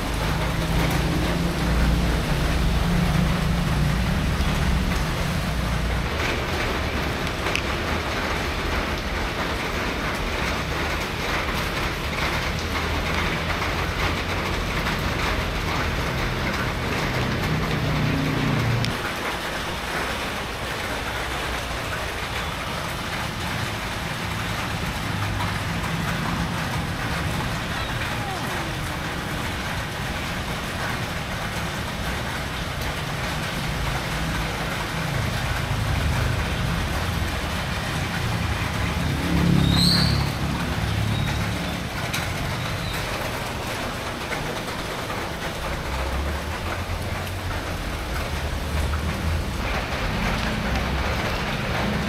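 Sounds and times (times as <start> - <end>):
street traffic hum: 0.0 - 52.0.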